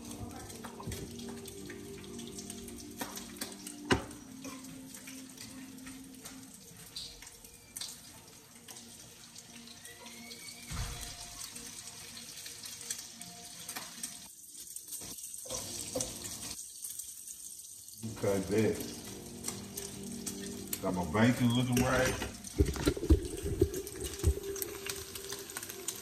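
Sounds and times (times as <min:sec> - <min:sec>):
bacon sizzling in a frying pan: 0:00.0 - 0:26.0.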